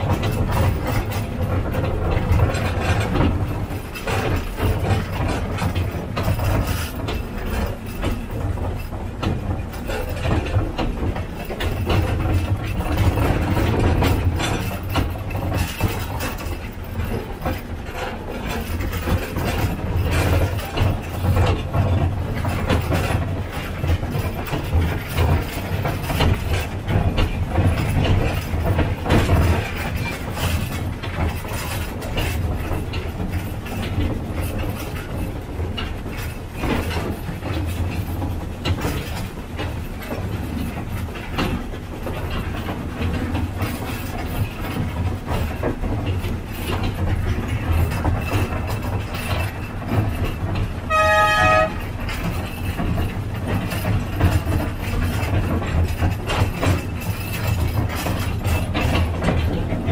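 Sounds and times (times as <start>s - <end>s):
train engine drone: 0.0s - 59.9s
wheels clattering over rails: 0.0s - 59.9s.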